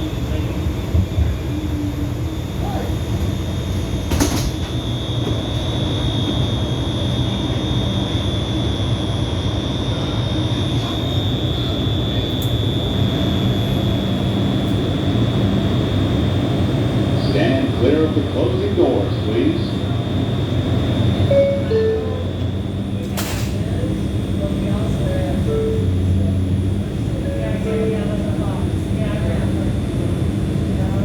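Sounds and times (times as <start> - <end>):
steady high whine: 0.0 - 31.0
subway car rumble and hum: 0.0 - 31.0.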